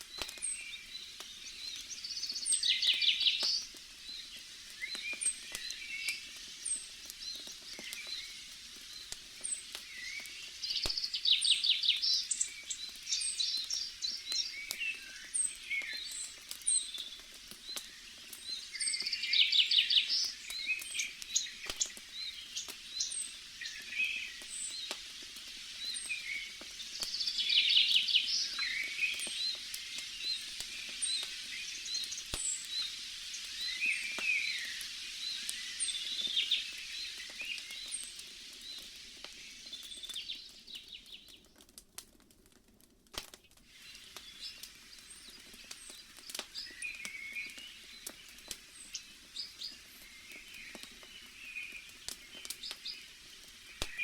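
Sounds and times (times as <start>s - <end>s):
songbirds trilling: 0.0s - 41.5s, 43.7s - 54.0s
campfire crackling: 0.0s - 54.0s.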